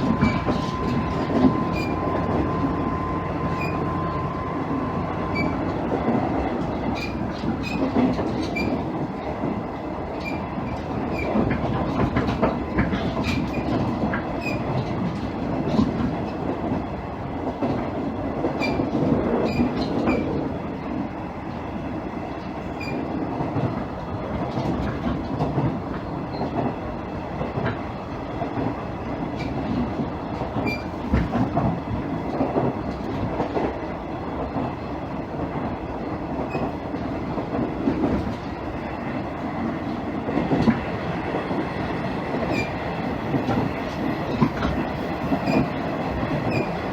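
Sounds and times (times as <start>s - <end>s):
clacks over rail joints: 0.0s - 46.9s
diesel engine and wheels rumbling: 0.0s - 46.9s.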